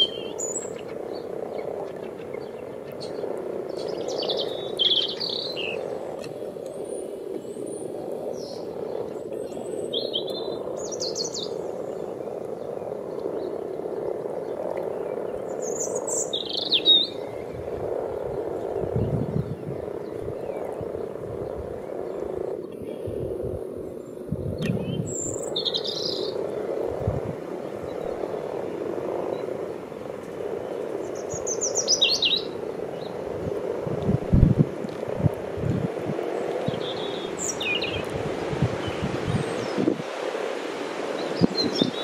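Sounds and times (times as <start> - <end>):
frogs croaking: 0.0 - 42.0
wind rumble on microphone: 0.0 - 42.0.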